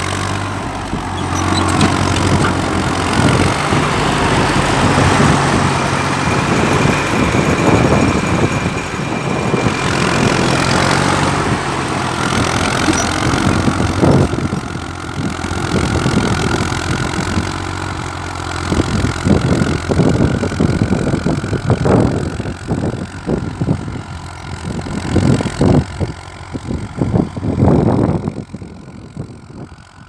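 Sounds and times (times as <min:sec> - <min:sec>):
buffeting rumbles: 0:00.0 - 0:30.0
tractor engine running: 0:00.0 - 0:30.0.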